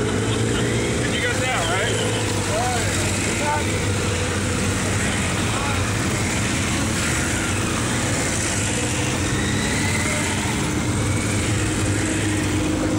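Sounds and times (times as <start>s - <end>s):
motorcycles riding past: 0.0s - 12.9s.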